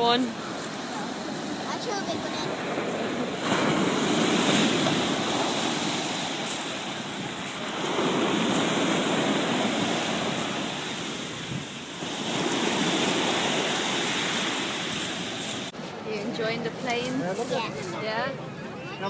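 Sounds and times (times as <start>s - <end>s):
sea waves washing ashore: 0.0s - 18.8s.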